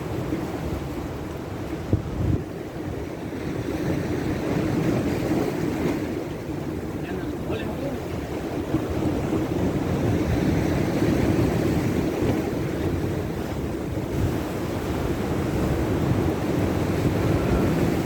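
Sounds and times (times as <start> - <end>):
moving water: 0.0 - 18.0
wind buffeting microphone: 0.0 - 18.0.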